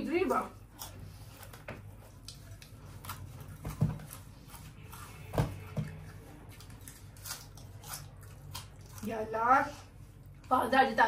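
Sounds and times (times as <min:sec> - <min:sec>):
people chewing crunchy noodles: 0:00.6 - 0:10.5.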